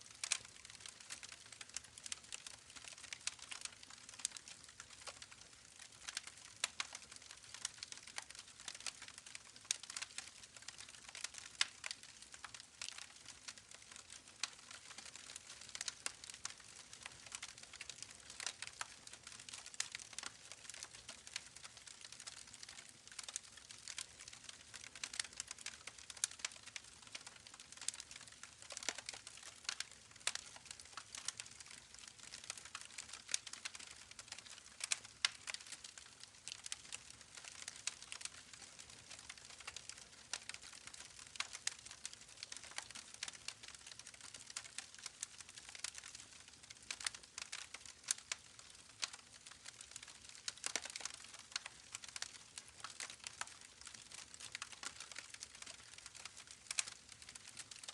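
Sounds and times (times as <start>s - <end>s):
campfire crackling: 0.1s - 57.9s.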